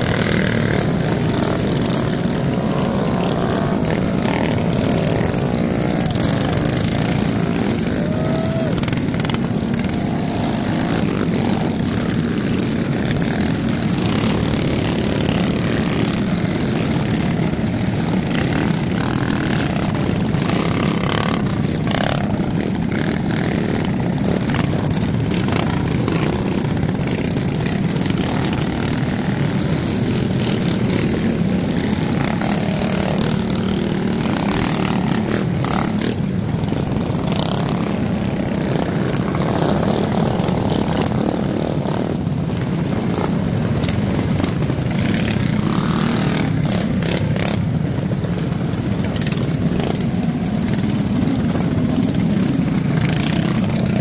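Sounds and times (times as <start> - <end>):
mini-bike engines running: 0.0 - 54.0.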